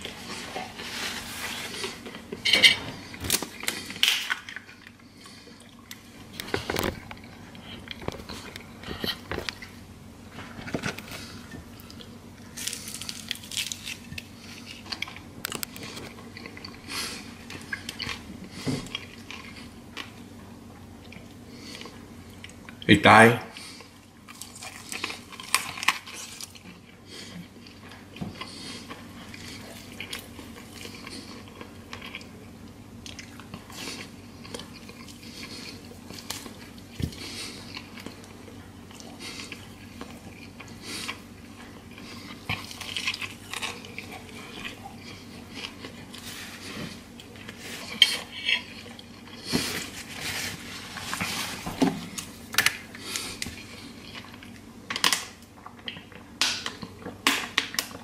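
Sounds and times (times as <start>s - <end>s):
person chewing: 0.0s - 9.8s, 10.4s - 22.8s, 23.6s - 58.0s.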